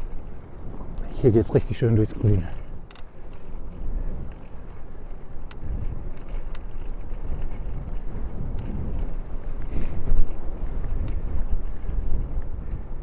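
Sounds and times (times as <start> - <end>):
bike clicks: 0.0 - 13.0
tyre and road noise: 0.0 - 13.0
wind rumble on microphone: 0.0 - 13.0.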